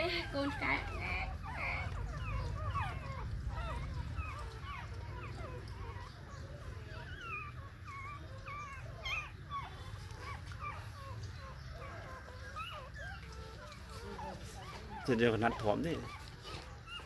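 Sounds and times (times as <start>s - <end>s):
puppies whimpering: 0.0s - 17.0s.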